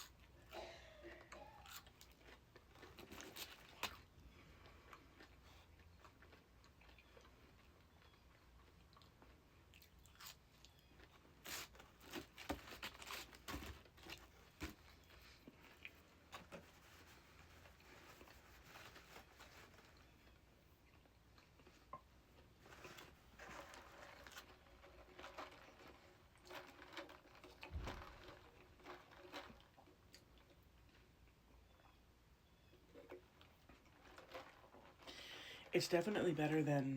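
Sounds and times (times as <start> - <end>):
chewing and crunching food: 0.0 - 35.7.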